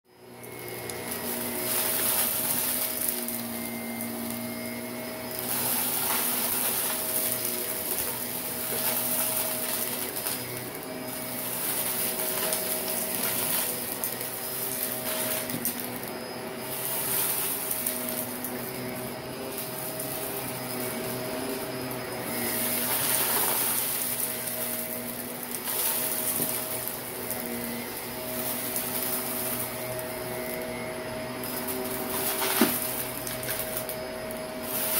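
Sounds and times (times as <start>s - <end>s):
vacuum cleaner motor hum: 0.0s - 34.9s
dirt crunching up vacuum nozzle: 0.2s - 34.9s.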